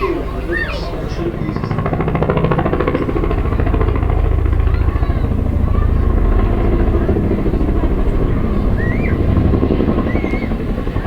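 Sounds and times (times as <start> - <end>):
helicopter rotor blades beating: 0.0 - 11.0.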